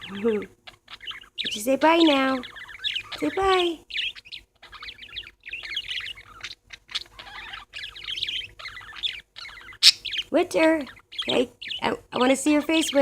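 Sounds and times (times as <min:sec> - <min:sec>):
parakeets chattering and chirping: 0:00.0 - 0:13.0.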